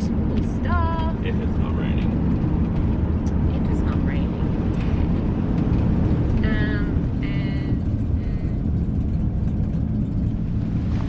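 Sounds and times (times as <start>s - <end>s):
vehicle road rumble: 0.0s - 11.0s.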